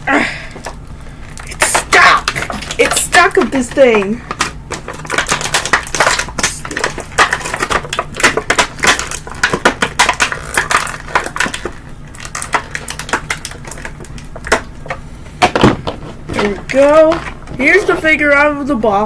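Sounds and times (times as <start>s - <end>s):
plastic packaging crackling: 0.0s - 19.0s.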